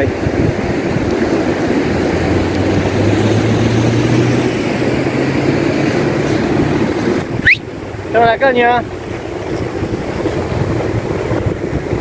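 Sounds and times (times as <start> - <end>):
jet ski engine droning: 0.0 - 12.0
surf: 0.0 - 12.0
wind: 0.0 - 12.0.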